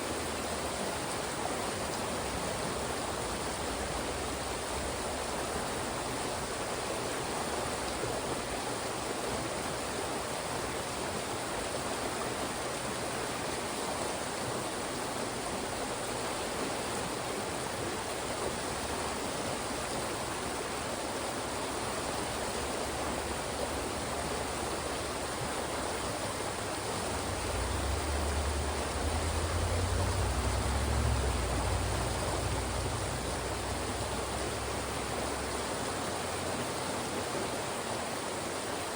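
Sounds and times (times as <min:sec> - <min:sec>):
stream rushing between rocks: 0:00.0 - 0:38.9.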